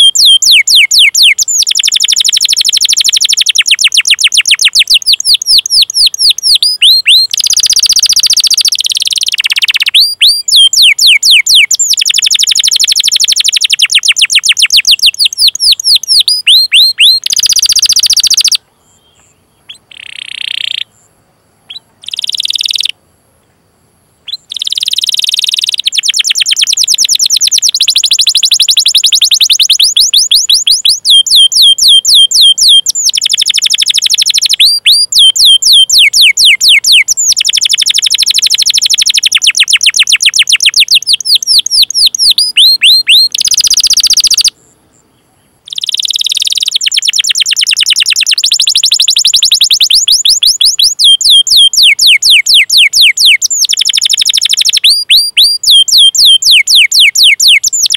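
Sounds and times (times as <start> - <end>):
canary singing rapid chirps: 0.0 - 21.1, 21.7 - 23.0, 24.2 - 44.8, 45.6 - 57.9.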